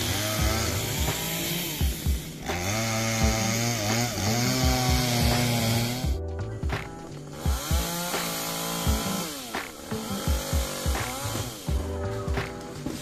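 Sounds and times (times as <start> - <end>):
chainsaw cutting log: 0.0 - 6.2, 6.8 - 13.0
background music with beat: 0.0 - 13.0.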